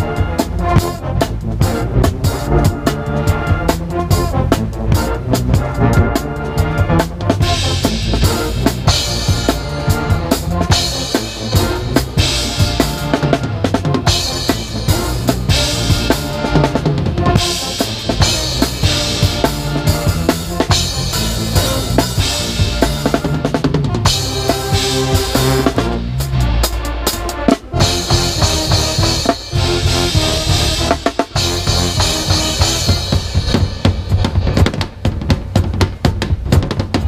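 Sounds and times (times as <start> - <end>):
low brass notes: 0.0 - 34.8
drum kit played hard: 0.0 - 37.0.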